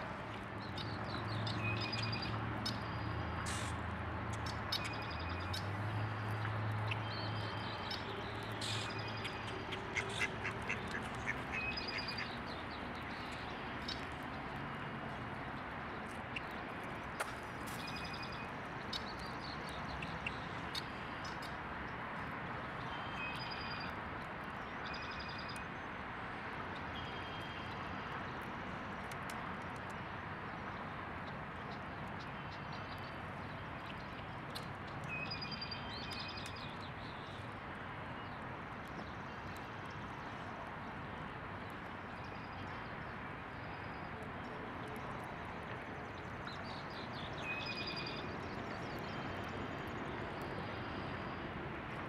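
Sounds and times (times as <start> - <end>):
steady outdoor hiss: 0.0 - 52.0.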